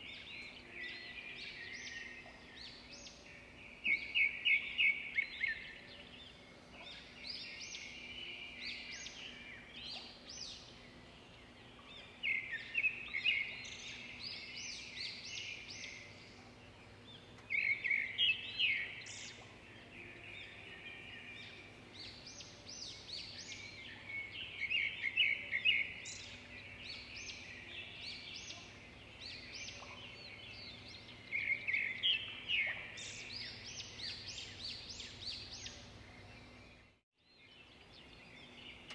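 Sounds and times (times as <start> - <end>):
songbird trilling and chirping: 0.0 - 16.4, 17.0 - 38.9
faint steady hum: 0.0 - 36.9.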